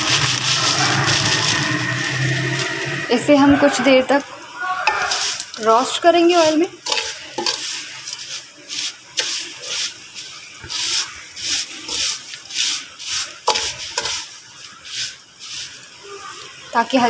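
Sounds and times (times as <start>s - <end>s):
oil sizzling: 0.0s - 17.0s
spatula scraping in a pan: 0.0s - 17.0s.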